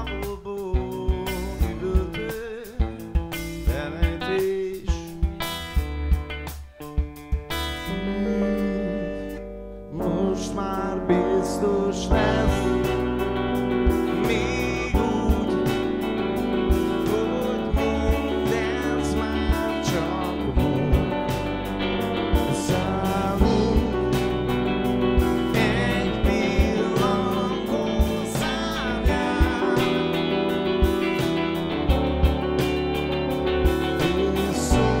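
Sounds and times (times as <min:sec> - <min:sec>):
person singing: 0:00.0 - 0:03.0, 0:03.6 - 0:05.4, 0:07.8 - 0:35.0
steady drum beat: 0:00.0 - 0:08.0, 0:12.1 - 0:35.0
bass guitar: 0:00.0 - 0:35.0
guitar: 0:00.0 - 0:35.0
stage keyboard: 0:00.0 - 0:35.0.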